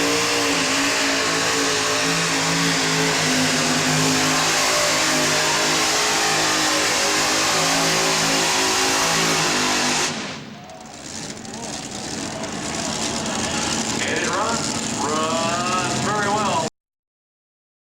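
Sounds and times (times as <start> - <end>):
tractor engine at full power: 0.0 - 16.7.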